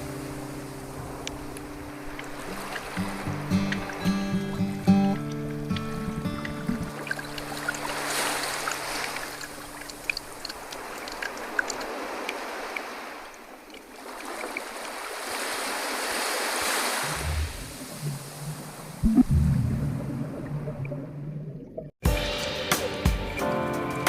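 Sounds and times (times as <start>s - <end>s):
water washing in swells: 0.0s - 22.0s.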